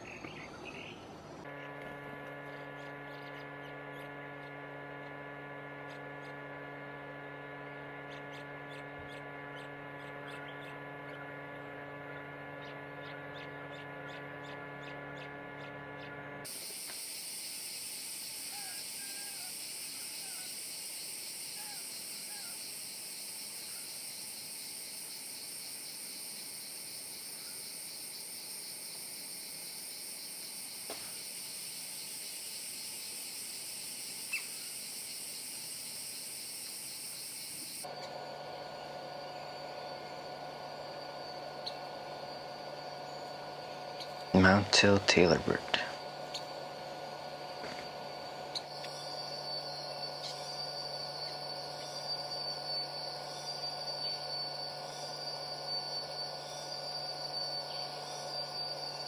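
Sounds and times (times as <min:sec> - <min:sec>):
insect chorus: 0:00.0 - 0:15.7, 0:16.4 - 0:59.0
steady hum of tones: 0:00.0 - 0:59.0.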